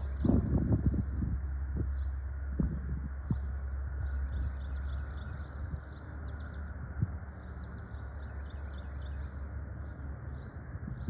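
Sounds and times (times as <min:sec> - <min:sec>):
small birds chirping: 0:00.0 - 0:01.2, 0:01.8 - 0:02.2, 0:03.1 - 0:11.0
steady low rumble: 0:00.0 - 0:11.0.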